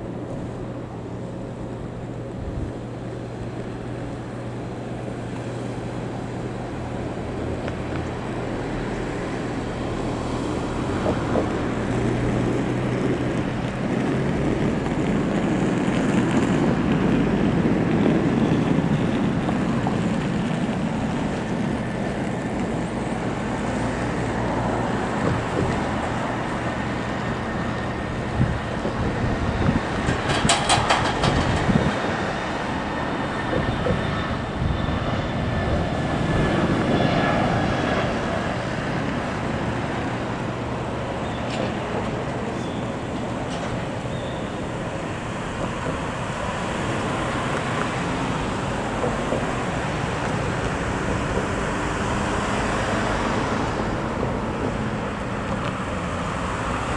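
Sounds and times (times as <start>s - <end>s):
jet engines at takeoff: 0.0s - 56.9s.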